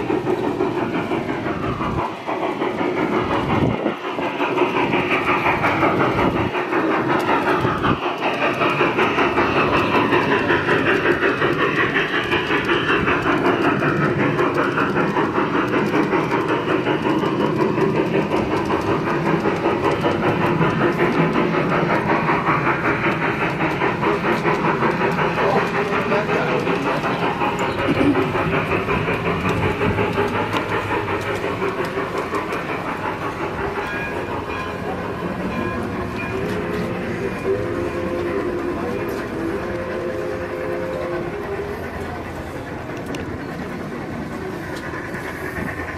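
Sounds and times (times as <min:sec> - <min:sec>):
model train clacking on track: 0:00.0 - 0:45.9.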